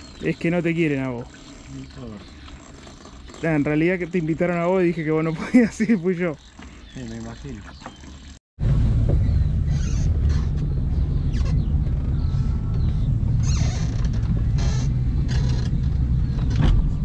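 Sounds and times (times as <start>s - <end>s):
motorboat engine rumbling: 0.0s - 17.0s.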